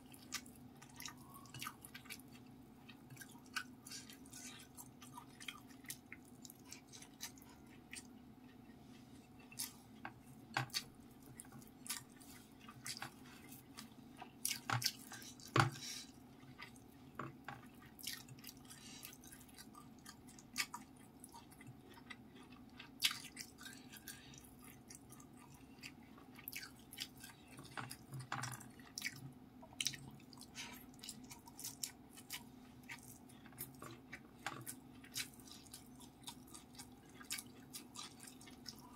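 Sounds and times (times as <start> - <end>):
faint steady hum: 0.0 - 38.9
wet chewing and mouth clicks: 0.1 - 38.9.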